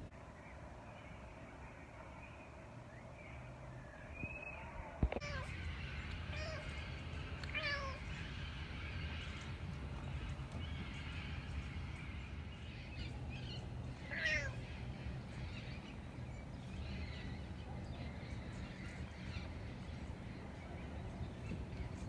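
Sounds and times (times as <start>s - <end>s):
low background rumble: 0.0s - 22.0s
birds chirping and calling: 3.3s - 22.0s.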